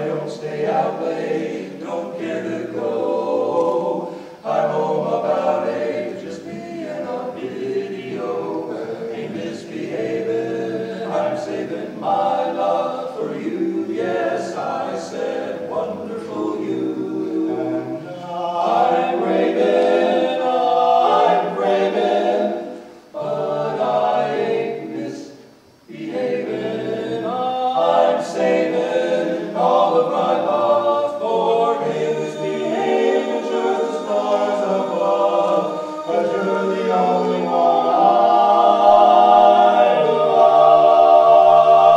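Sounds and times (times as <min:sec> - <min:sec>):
male quartet singing a cappella: 0:00.0 - 0:41.9.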